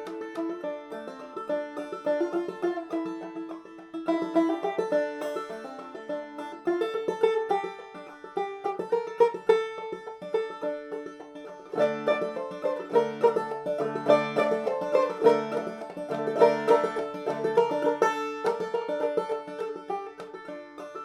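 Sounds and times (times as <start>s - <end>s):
banjo playing: 0.0s - 21.0s.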